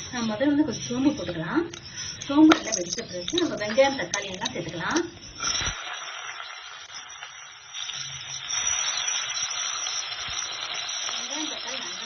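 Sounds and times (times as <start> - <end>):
seeds sizzling in hot oil: 0.0 - 12.0.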